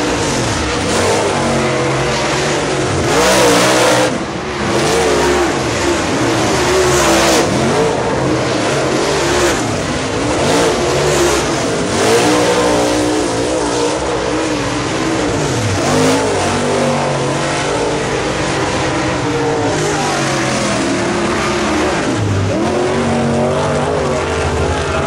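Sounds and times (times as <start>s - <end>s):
race car engines rising and falling: 0.0s - 25.0s.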